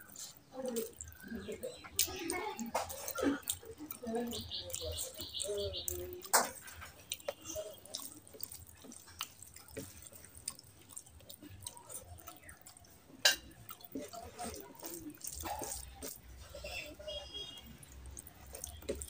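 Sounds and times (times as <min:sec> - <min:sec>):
wet clicks and smacks: 0:00.0 - 0:16.4, 0:17.5 - 0:19.0
hand squishing rice with curry: 0:00.0 - 0:19.0.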